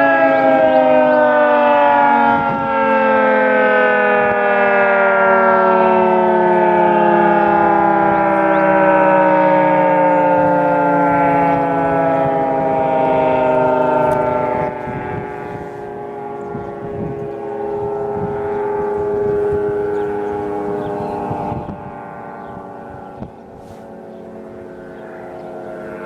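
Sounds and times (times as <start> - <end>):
outdoor warning siren: 0.0 - 26.0.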